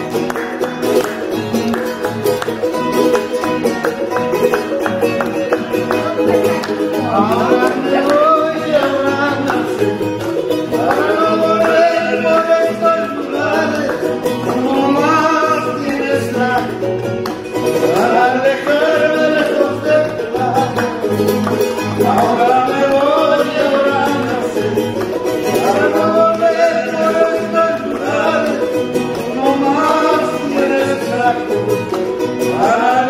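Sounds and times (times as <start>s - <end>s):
people singing folk song: 0.0s - 33.0s
strummed charango and guitar: 0.0s - 33.0s.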